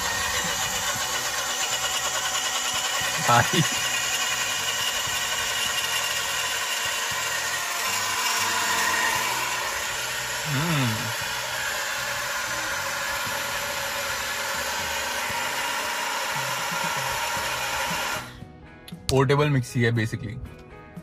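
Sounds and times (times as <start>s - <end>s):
bottle blender motor whining: 0.0s - 18.3s.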